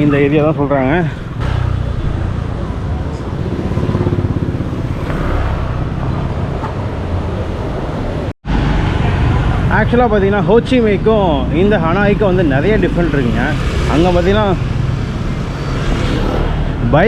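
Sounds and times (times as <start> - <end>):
street traffic rumbling: 0.0 - 17.0.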